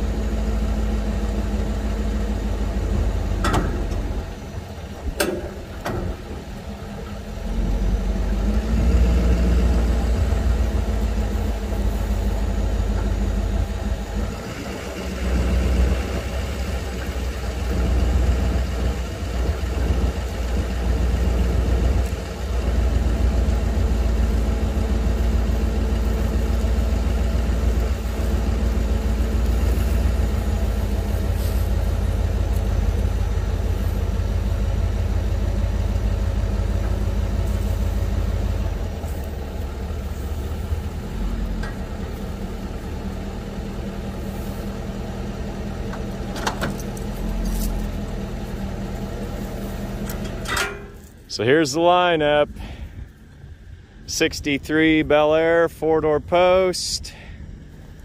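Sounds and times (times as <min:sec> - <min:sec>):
vehicle engine running low: 0:00.0 - 0:58.0.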